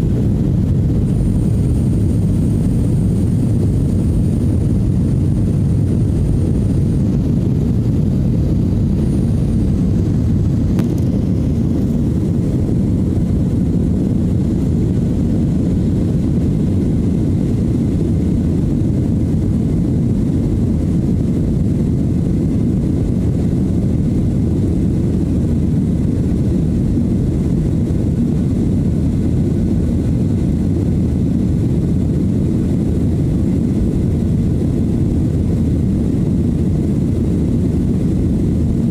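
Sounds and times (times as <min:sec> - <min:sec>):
jet airliner cabin rumble: 0:00.0 - 0:38.9.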